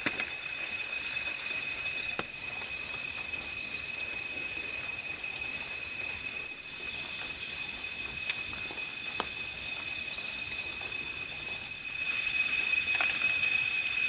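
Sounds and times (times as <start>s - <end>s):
night insects trilling: 0.0s - 14.0s
high pulsing insect buzz: 0.1s - 14.0s.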